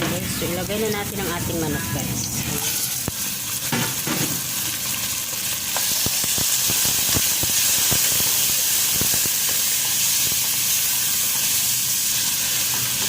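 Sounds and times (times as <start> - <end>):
chicken frying in oil: 2.3 - 13.0.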